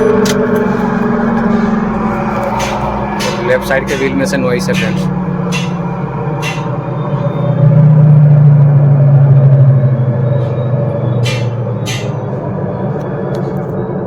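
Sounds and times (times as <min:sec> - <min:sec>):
wheel bearing droning: 0:00.0 - 0:14.0.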